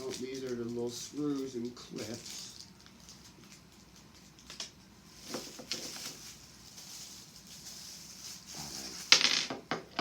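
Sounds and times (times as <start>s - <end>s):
plastic packaging rustling: 0.0s - 9.2s.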